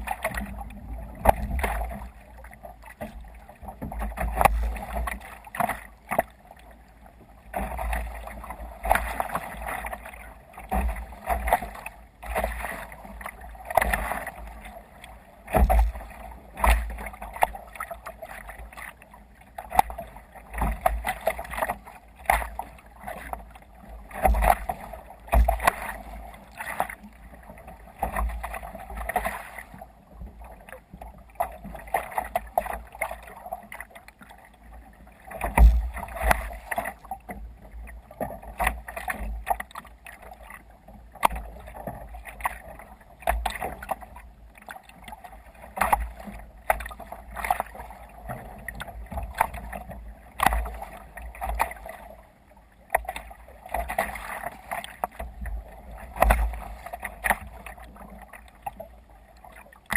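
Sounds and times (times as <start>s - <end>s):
water splashing against kayak hull: 0.0s - 59.9s.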